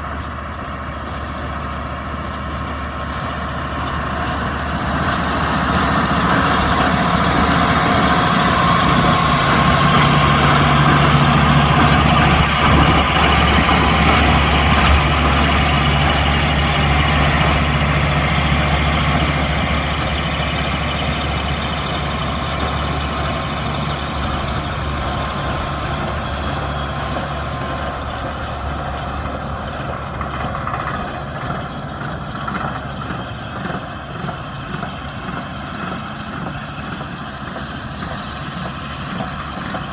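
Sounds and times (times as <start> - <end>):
baler machinery clatter: 0.0 - 39.9
diesel tractor engine hum: 0.0 - 39.9.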